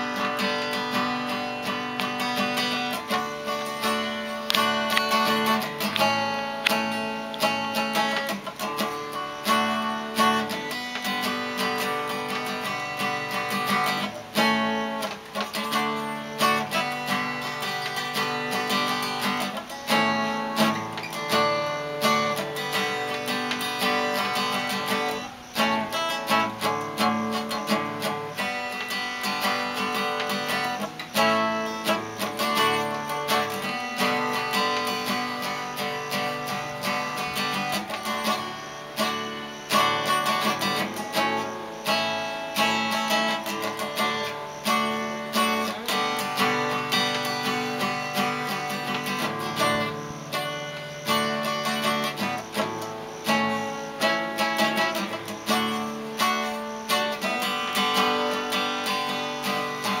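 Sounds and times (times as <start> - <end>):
acoustic guitar strumming chords: 0.0 - 60.0.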